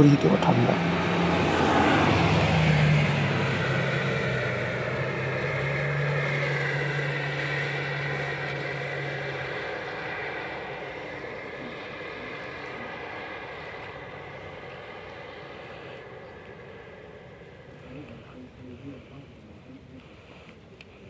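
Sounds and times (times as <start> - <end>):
vehicle engine drone: 0.0 - 21.0
wet road noise: 0.0 - 21.0.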